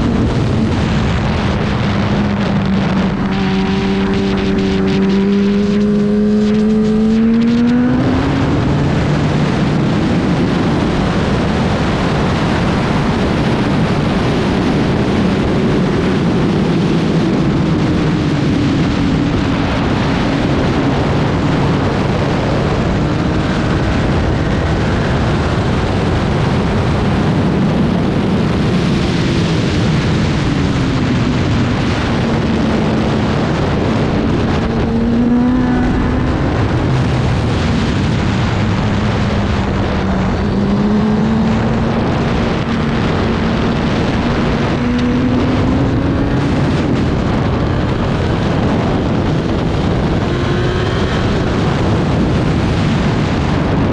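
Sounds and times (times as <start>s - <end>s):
racing motorcycle engine: 0.0s - 53.9s
steady rushing noise: 0.0s - 53.9s.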